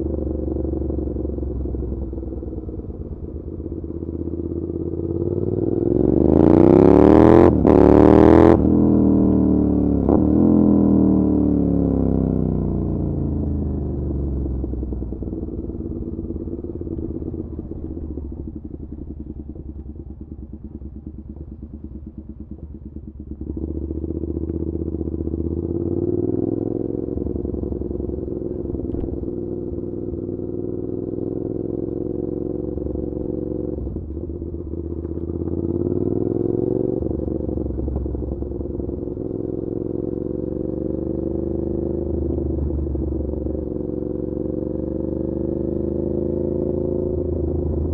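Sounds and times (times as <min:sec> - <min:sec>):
v-twin motorcycle engine revving: 0:00.0 - 0:47.9.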